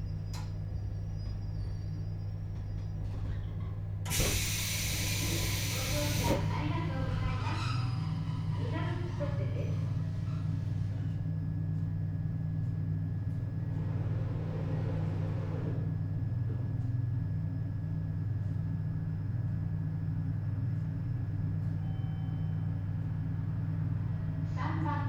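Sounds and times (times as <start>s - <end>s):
electric train hum and whine: 0.0s - 25.0s.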